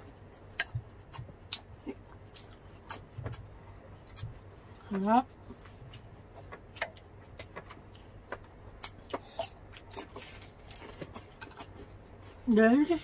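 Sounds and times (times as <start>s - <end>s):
crunching and chewing: 0.0s - 13.0s.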